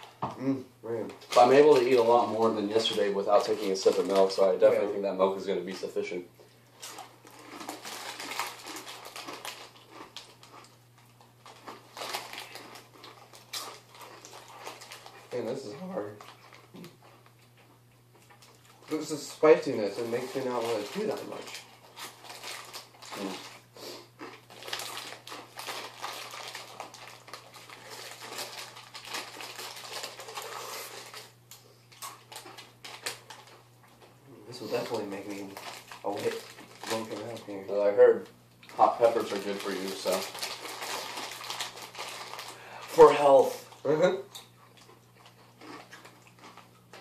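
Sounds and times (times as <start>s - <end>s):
plastic snack bag crinkling: 1.0s - 6.1s, 6.7s - 17.5s, 18.2s - 47.0s
tortilla chips crunching when chewed: 1.1s - 4.9s, 6.7s - 38.0s, 38.6s - 47.0s.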